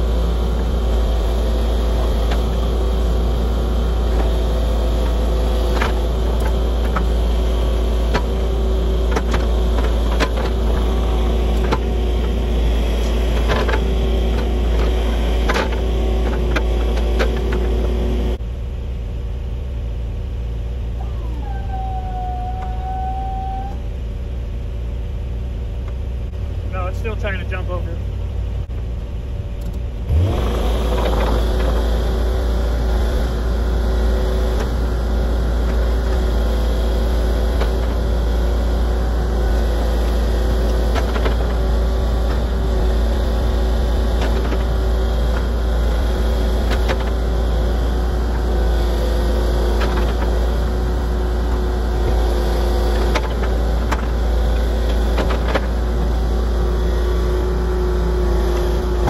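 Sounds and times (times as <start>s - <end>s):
large engine running under load: 0.0s - 59.0s.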